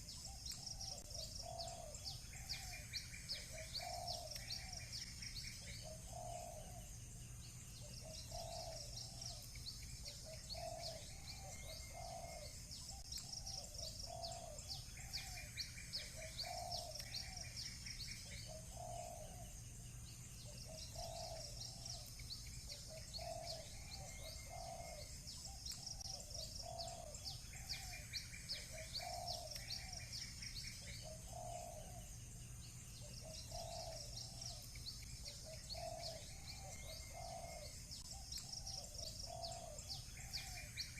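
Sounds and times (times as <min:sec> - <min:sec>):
bird cooing: 0:00.0 - 0:07.1, 0:07.8 - 0:19.6, 0:20.4 - 0:32.3, 0:33.0 - 0:40.9
songbirds chirping and trilling: 0:00.0 - 0:40.9.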